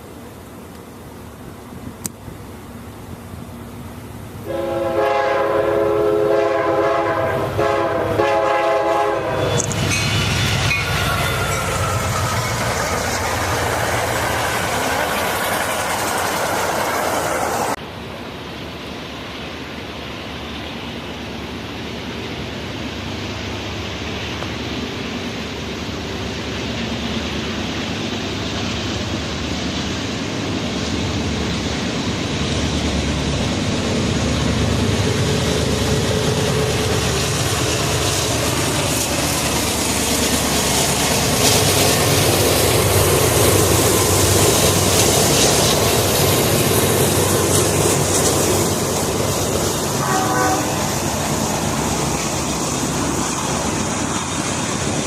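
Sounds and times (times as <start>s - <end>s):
diesel locomotive engines running: 0.0s - 55.0s
passing train: 0.0s - 55.0s.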